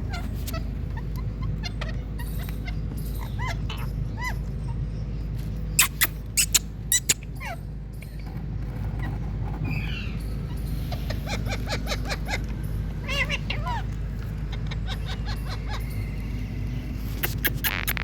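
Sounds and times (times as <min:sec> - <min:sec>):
parakeets calling: 0:00.0 - 0:18.0
steady low hum: 0:00.0 - 0:18.0.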